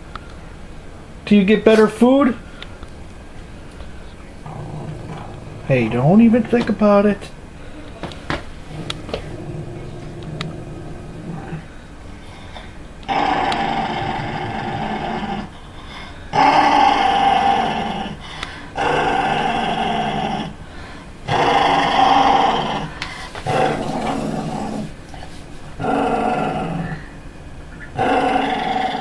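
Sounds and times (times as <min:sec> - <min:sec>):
dog growling: 0:04.3 - 0:29.0.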